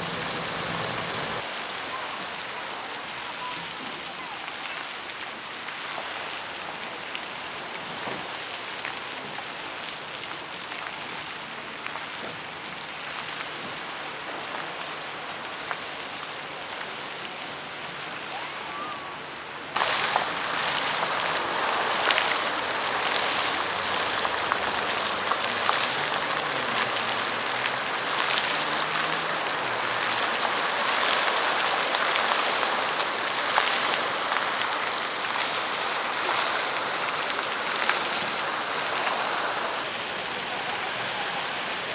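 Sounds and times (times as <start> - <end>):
fountain water splashing: 0.0 - 41.9.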